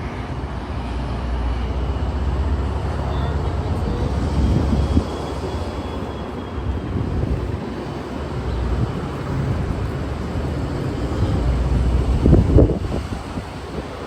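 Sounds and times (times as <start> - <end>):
train rumble from inside coach: 0.0 - 14.0.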